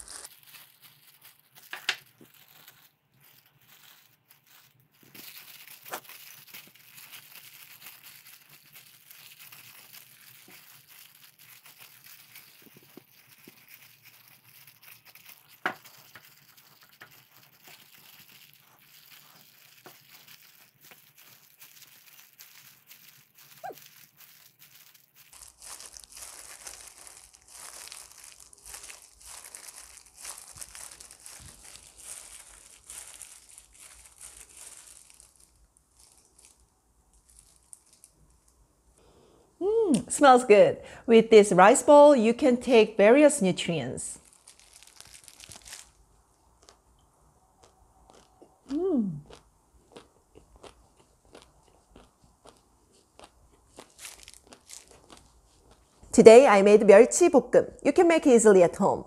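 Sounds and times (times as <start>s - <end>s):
plastic gloves crinkling: 0.0s - 39.1s, 39.9s - 59.0s.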